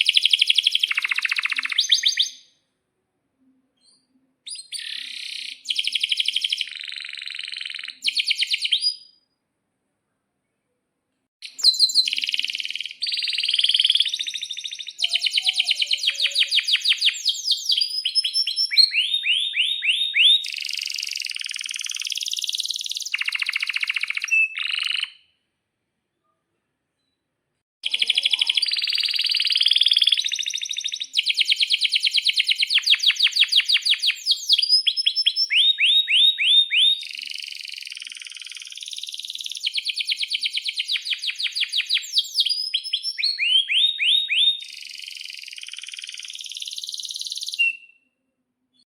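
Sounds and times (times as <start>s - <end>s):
canary singing trills: 0.0s - 2.6s, 3.8s - 9.2s, 11.4s - 25.3s, 27.8s - 48.1s.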